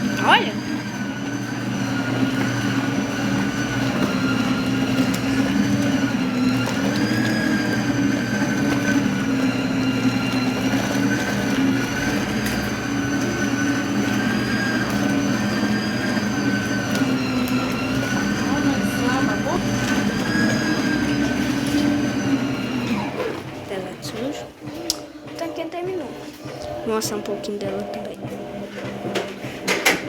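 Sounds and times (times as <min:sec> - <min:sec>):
washing machine motor agitating: 0:00.0 - 0:30.0.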